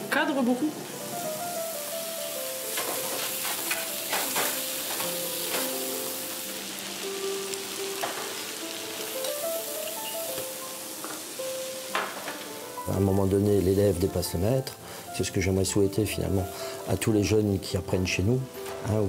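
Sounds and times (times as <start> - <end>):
soft background music: 0.0 - 19.0
food sizzling on griddle: 0.2 - 19.0.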